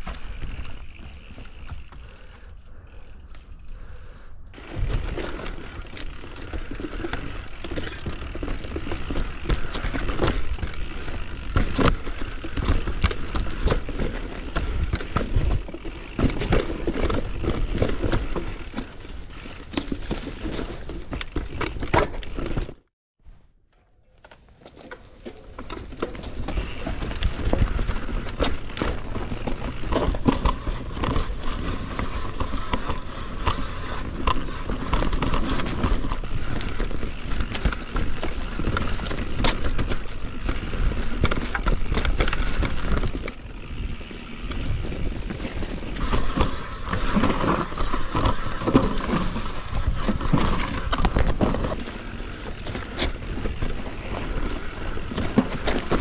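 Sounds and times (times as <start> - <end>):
bike knocks and rattles: 0.0 - 2.3, 4.6 - 22.8, 24.7 - 56.0
bike tyres rumbling over dirt: 0.0 - 22.8, 25.3 - 56.0.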